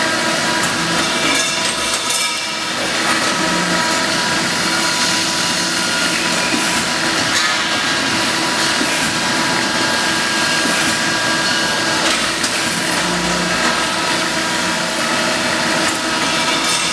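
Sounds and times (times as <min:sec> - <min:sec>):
lathe running: 0:00.0 - 0:16.9.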